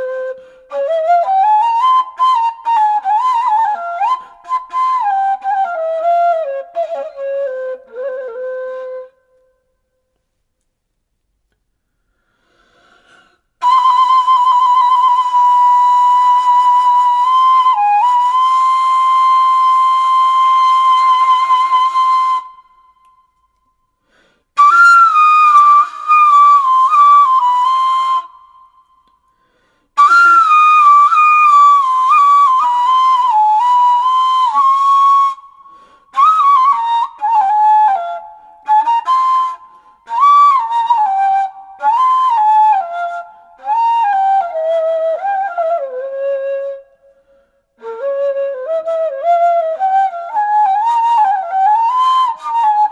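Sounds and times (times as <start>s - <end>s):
flute melody: 0.0s - 10.0s, 13.6s - 23.6s, 24.6s - 29.2s, 30.0s - 52.9s.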